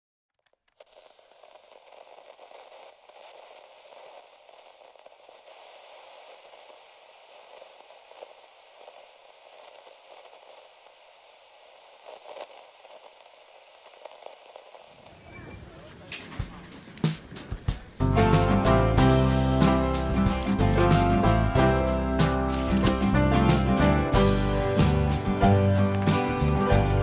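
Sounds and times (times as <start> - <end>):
crackling static hiss: 0.3 - 27.0.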